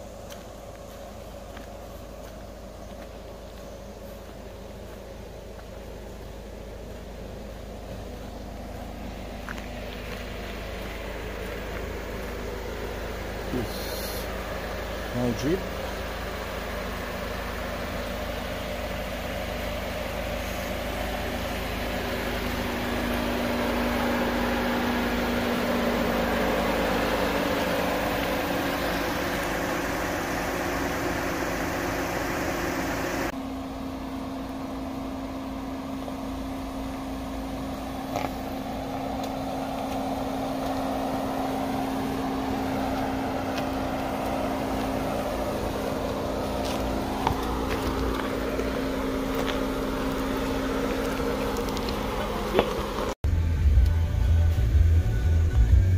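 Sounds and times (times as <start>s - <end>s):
engine running with low hum: 0.0s - 55.9s.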